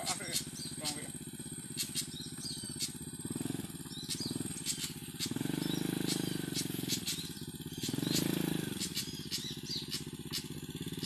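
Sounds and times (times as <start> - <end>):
bird chirps: 0.0 - 11.0
small engine throbbing hum: 0.0 - 11.0.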